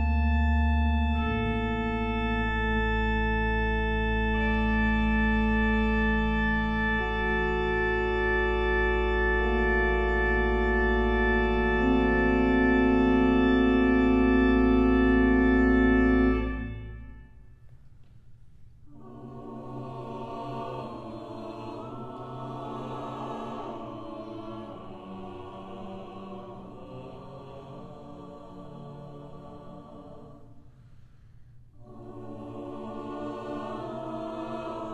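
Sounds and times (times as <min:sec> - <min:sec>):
choir singing softly: 0:00.0 - 0:17.2, 0:18.9 - 0:34.9
organ sustained chord: 0:00.0 - 0:17.6, 0:18.9 - 0:30.2, 0:31.8 - 0:34.9.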